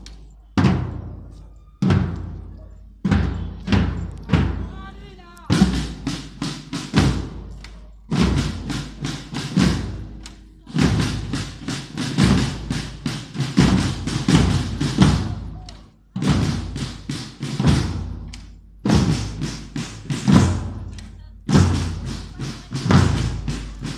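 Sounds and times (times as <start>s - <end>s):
marching band drums: 0.0s - 23.9s.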